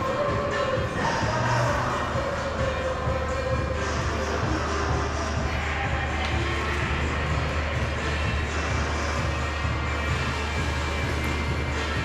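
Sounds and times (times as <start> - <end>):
fairground music: 0.0 - 12.0.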